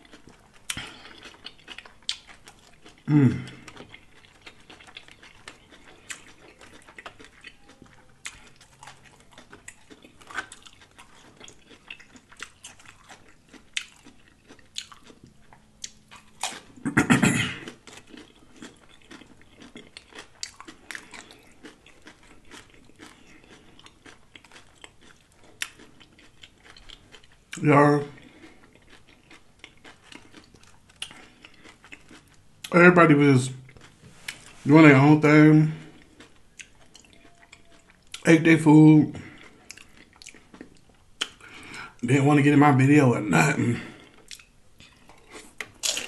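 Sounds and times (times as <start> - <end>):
crunching chips: 0.0 - 16.9, 17.5 - 46.0.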